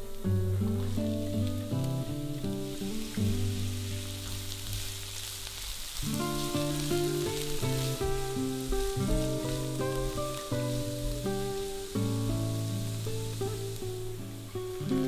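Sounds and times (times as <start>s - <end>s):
background music with plucked notes: 0.0s - 5.2s, 6.0s - 15.0s
vegetables sizzling in oil: 0.0s - 15.0s.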